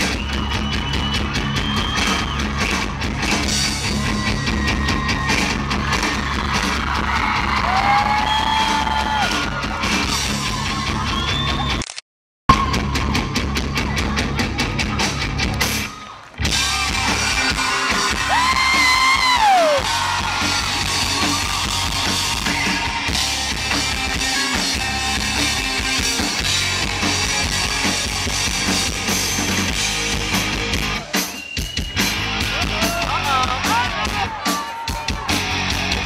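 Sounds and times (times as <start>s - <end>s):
live rock band playing: 0.0s - 11.7s, 12.5s - 36.0s.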